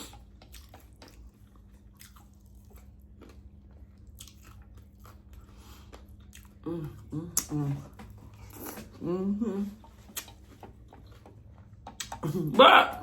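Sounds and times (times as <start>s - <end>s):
person chewing food: 0.0s - 9.0s, 9.8s - 12.3s
faint steady hum: 0.0s - 13.0s.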